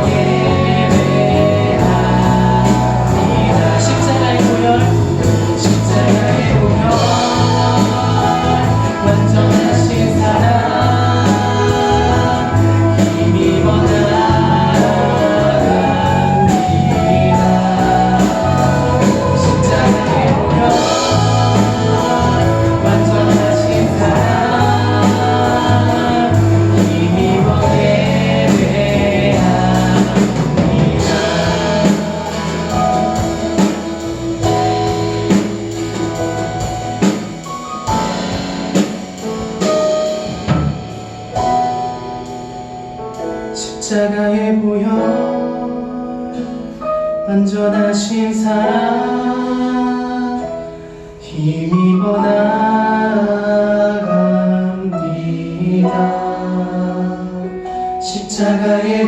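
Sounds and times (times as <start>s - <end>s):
voices singing: 0.0s - 41.9s, 43.6s - 59.0s
worship band playing: 0.0s - 59.0s.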